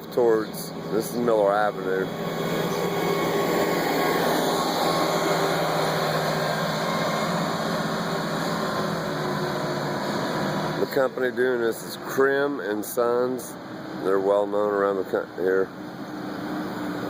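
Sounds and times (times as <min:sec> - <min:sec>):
asphalt milling machinery: 0:00.0 - 0:17.0
low engine hum: 0:00.0 - 0:17.0.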